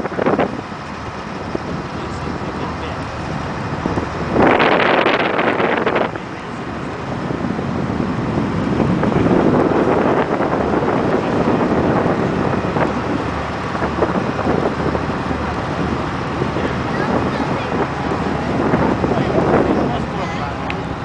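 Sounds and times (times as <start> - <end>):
ferry engine rumble: 0.0 - 21.0
wind buffeting microphone: 0.0 - 21.0.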